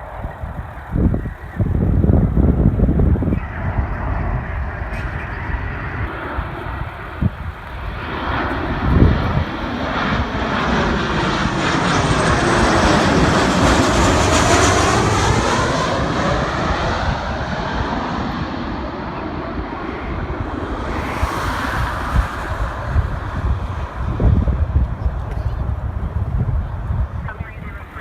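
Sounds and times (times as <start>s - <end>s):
airliner engine noise: 0.0s - 28.0s
whoosh of passing plane: 0.0s - 28.0s.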